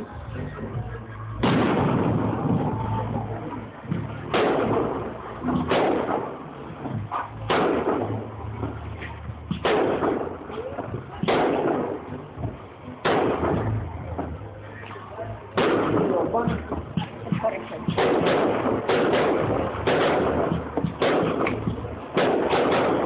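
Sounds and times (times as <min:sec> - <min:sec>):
firework bangs: 0:01.4 - 0:23.0.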